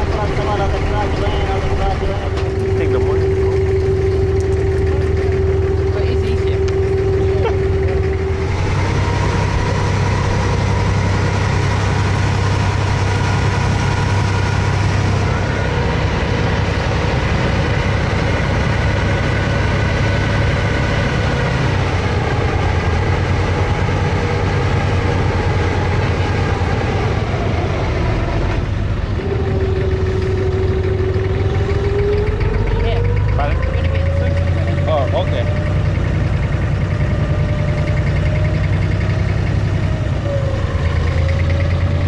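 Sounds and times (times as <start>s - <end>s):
boat diesel engine droning: 0.0s - 42.0s.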